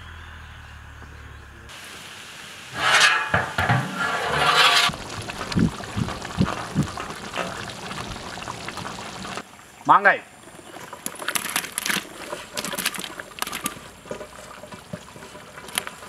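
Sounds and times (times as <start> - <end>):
thick curry boiling and bubbling: 1.7 - 16.0.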